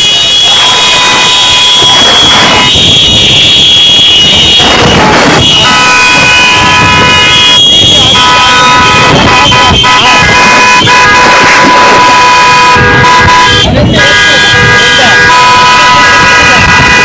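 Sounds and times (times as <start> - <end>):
noisy commotion with voices: 0.0 - 17.0
vehicle horns: 0.0 - 17.0.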